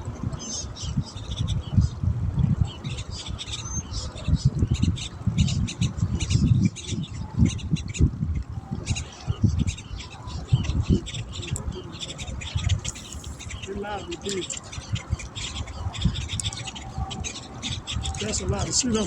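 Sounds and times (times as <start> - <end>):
birds chirping and squawking: 2.6 - 19.0.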